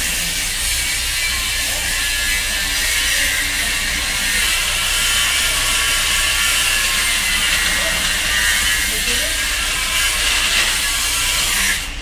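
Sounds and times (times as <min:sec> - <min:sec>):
circular saw running: 0:00.0 - 0:12.0.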